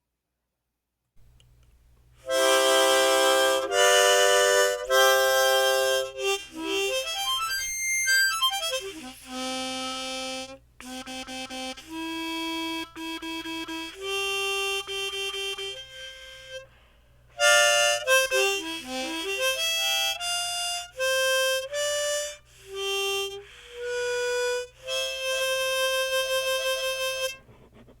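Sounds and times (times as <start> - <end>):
melody of held notes: 2.3 - 16.6, 17.4 - 27.4.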